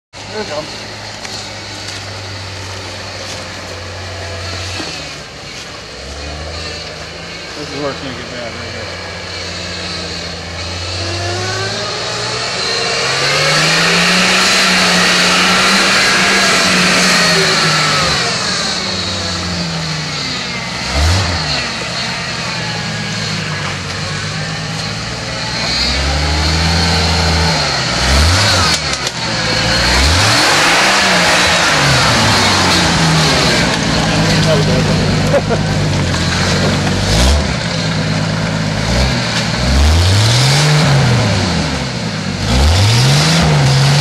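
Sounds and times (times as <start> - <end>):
truck engine revving: 0.2 - 44.0.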